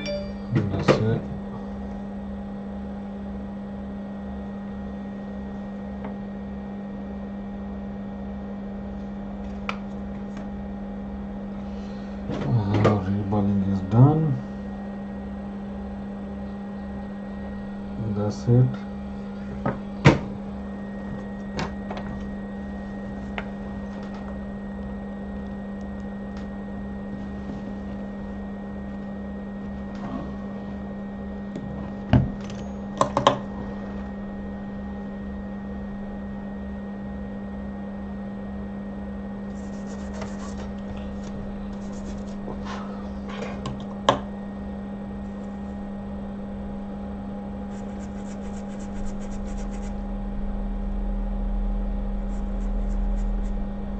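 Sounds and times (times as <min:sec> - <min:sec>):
electrical hum of equipment: 0:00.0 - 0:53.9.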